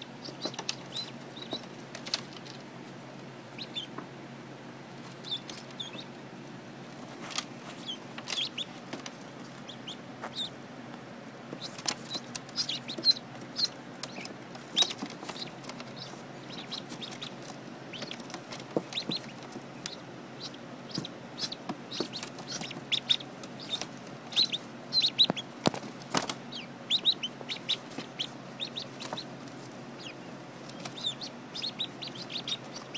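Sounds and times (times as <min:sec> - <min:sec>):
ducklings peeping: 0:00.0 - 0:32.9
steady low hum: 0:00.0 - 0:32.9.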